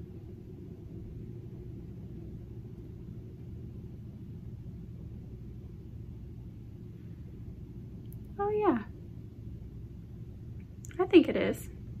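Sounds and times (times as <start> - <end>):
low room noise rumble: 0.0 - 12.0.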